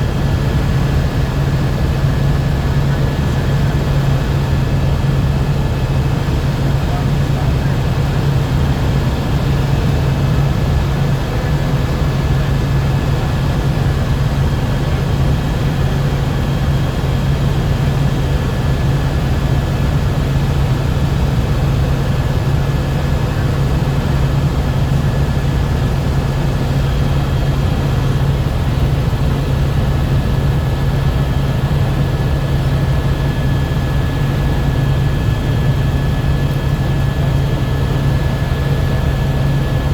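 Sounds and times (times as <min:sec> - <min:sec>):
helicopter cabin drone: 0:00.0 - 0:39.9.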